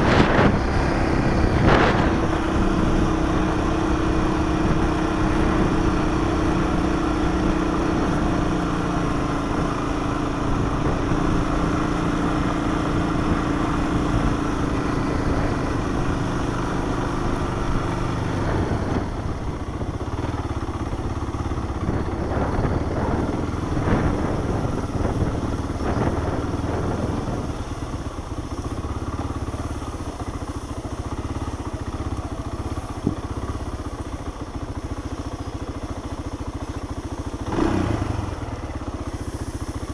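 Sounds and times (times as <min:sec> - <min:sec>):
four-wheeler engine running: 0:00.0 - 0:39.9.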